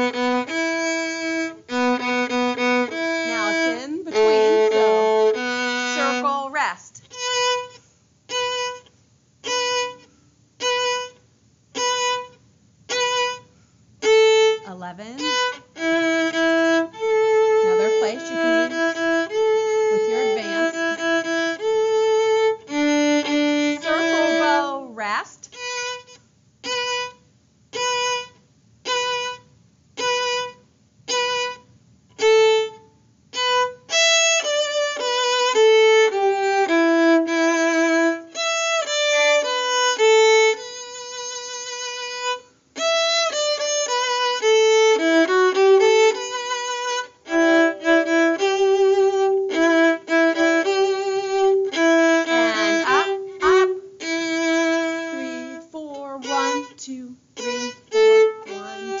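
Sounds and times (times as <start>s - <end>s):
solo violin playing: 0.0s - 6.5s, 7.1s - 24.9s, 25.5s - 59.0s.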